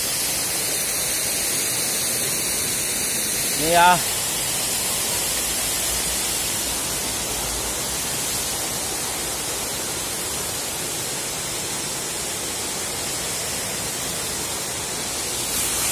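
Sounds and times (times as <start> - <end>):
waterfall rushing: 0.0 - 15.9.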